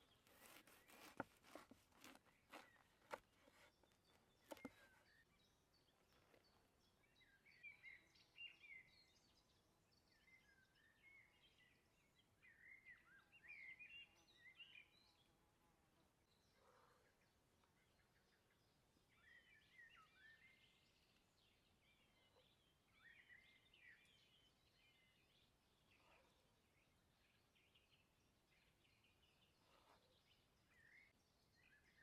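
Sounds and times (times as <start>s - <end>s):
faint birdsong chirping: 0.0s - 32.0s.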